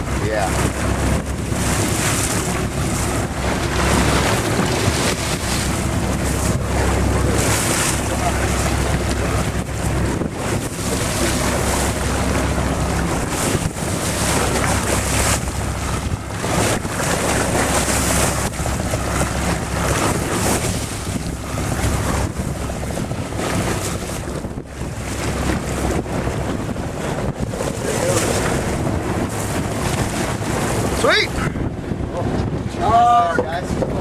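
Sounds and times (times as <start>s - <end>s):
low rumble: 0.0s - 34.0s
wind buffeting microphone: 0.0s - 34.0s.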